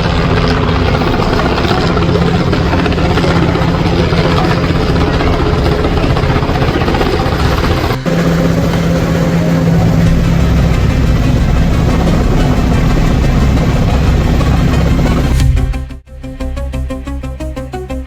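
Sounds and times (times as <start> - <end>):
helicopter engine and rotor: 0.0 - 15.6.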